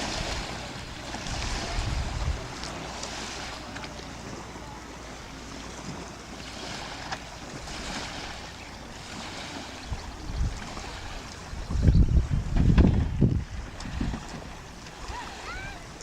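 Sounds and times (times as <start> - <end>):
wind buffeting microphone: 0.0 - 3.6, 5.8 - 16.0
waves on open water: 0.0 - 16.0.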